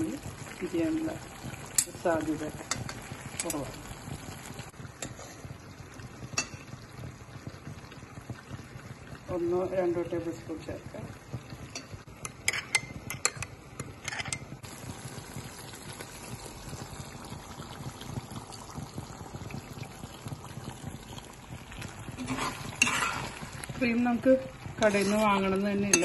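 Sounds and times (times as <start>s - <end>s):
gravy simmering in a pan: 0.0s - 26.0s.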